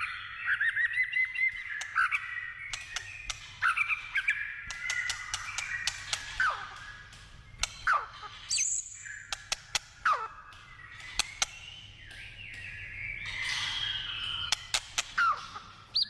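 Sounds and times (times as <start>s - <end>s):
bird whistling song: 0.0s - 16.0s
sharp bird clicking notes: 1.3s - 16.0s.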